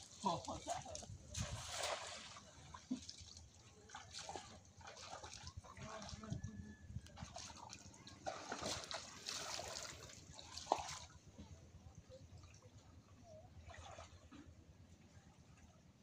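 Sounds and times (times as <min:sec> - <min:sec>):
water trickles and drips: 0:00.0 - 0:15.8
floodwater sloshing and splashing: 0:00.0 - 0:16.0.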